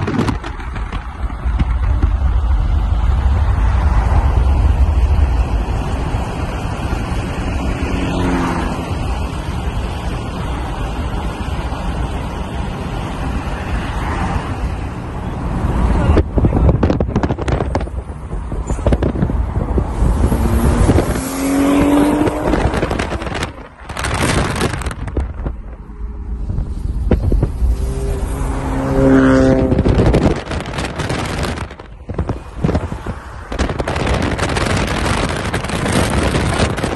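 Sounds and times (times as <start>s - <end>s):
wind noise on microphone: 0.0s - 13.5s, 14.3s - 36.9s
sports car engines accelerating: 0.0s - 36.9s.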